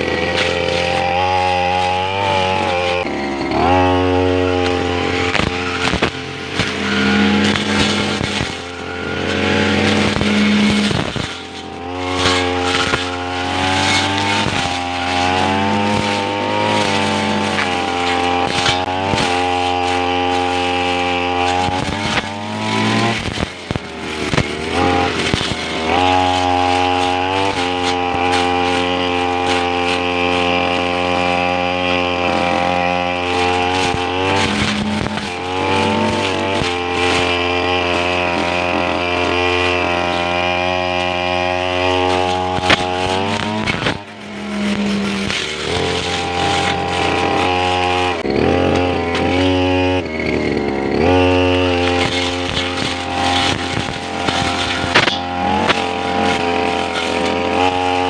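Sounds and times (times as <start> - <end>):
brush cutter engine revving: 0.0 - 58.0.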